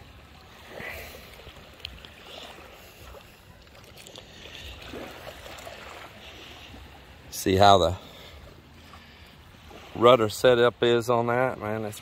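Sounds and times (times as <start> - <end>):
water sloshing around legs: 0.0 - 10.4.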